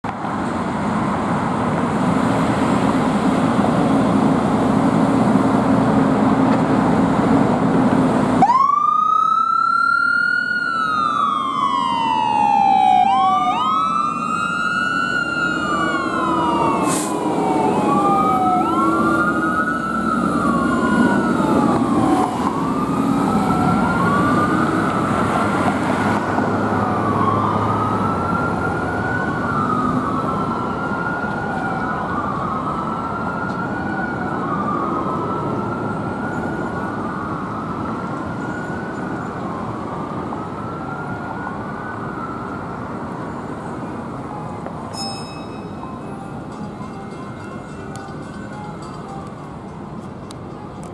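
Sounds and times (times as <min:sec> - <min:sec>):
fire engine siren wailing: 0:01.5 - 0:45.0.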